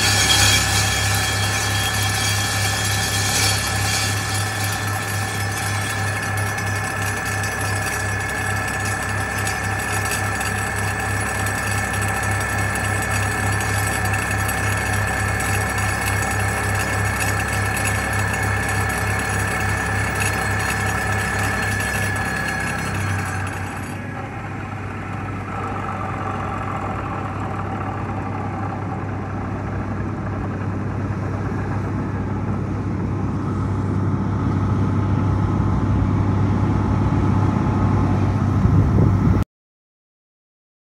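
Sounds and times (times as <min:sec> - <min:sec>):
vibratory hammer drone: 0:00.0 - 0:38.4
diesel power unit running: 0:00.0 - 0:39.4.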